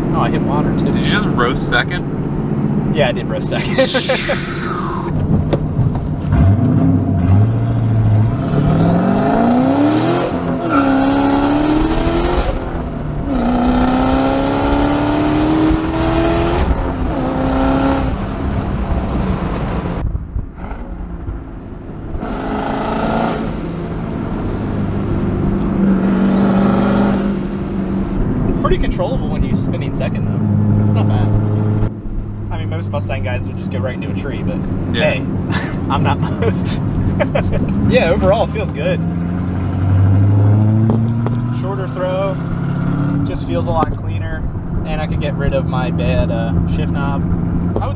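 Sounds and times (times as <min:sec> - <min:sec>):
car engine accelerating through gears: 0:03.5 - 0:47.9.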